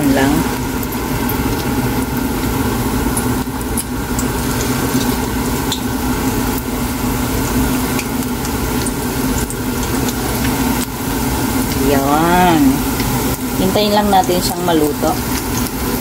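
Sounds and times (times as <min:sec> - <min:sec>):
deep-frying oil sizzling and popping: 0:00.0 - 0:16.0.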